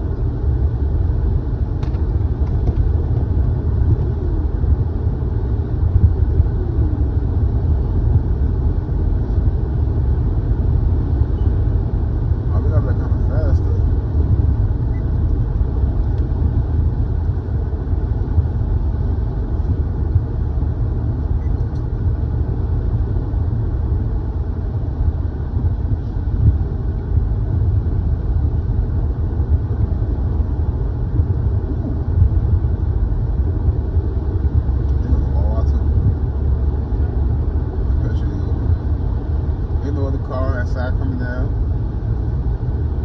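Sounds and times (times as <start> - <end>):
car interior road rumble: 0.0 - 43.0.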